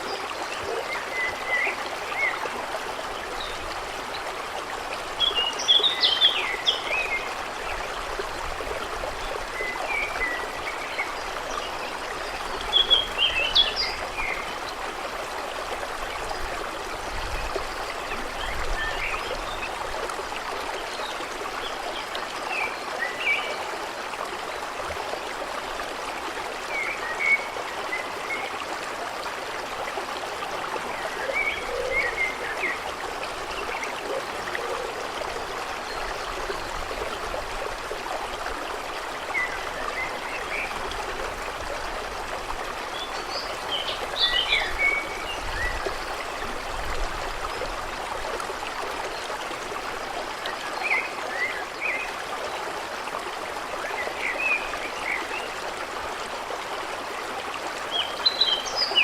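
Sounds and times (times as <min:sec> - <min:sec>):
stream running: 0:00.0 - 0:59.0.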